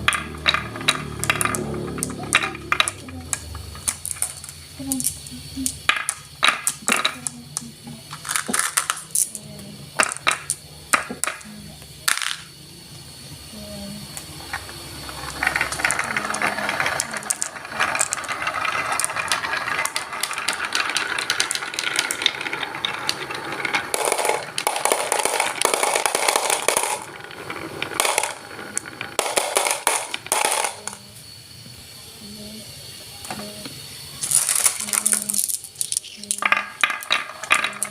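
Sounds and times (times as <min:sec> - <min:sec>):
marbles clicking and rattling: 0:00.0 - 0:12.6, 0:13.6 - 0:31.2, 0:33.2 - 0:37.9.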